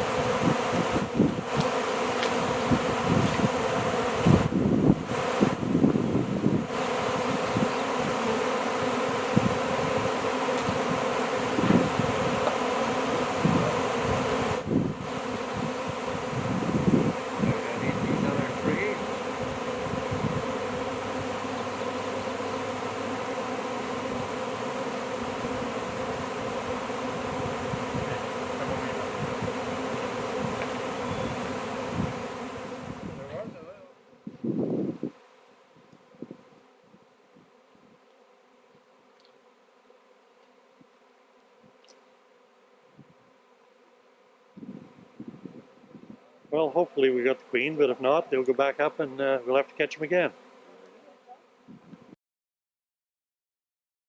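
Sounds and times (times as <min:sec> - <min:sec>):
bee swarm buzzing: 0:00.0 - 0:52.2.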